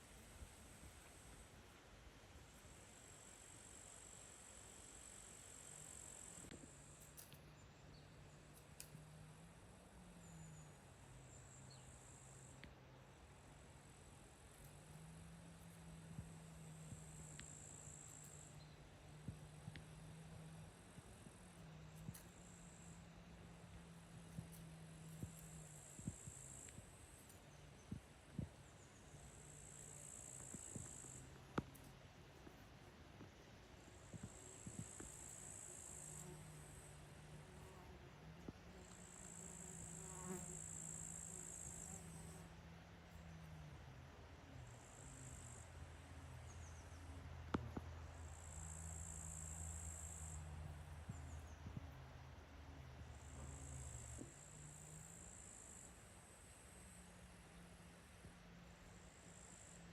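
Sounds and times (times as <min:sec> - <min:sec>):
faint low hum: 0:00.0 - 0:59.9
crickets chirping: 0:08.3 - 0:59.9.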